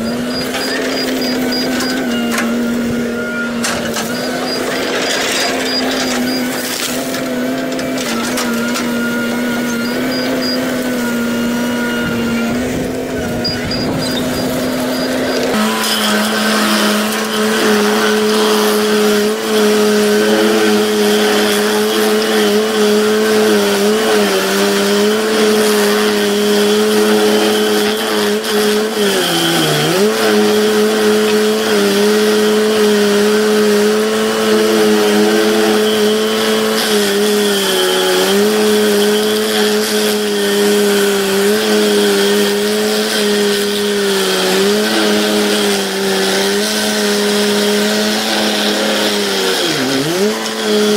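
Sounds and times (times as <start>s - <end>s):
stump grinder grinding: 0.0s - 50.9s.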